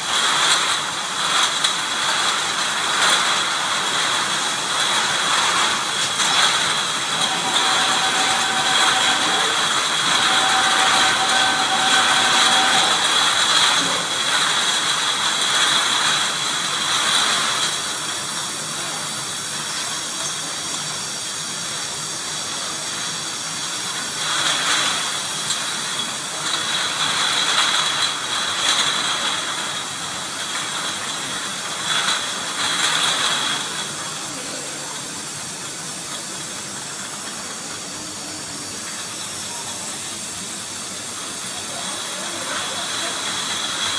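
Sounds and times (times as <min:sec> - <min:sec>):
constant high whine: 0:00.0 - 0:43.9
conveyor machinery hiss: 0:00.0 - 0:43.9
surges of machine noise: 0:00.0 - 0:43.9.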